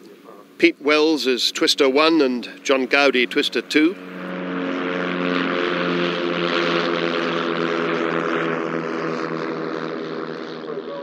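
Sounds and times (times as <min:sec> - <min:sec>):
propeller planes flying past: 0:00.0 - 0:11.0
rushing propeller noise: 0:00.6 - 0:11.0.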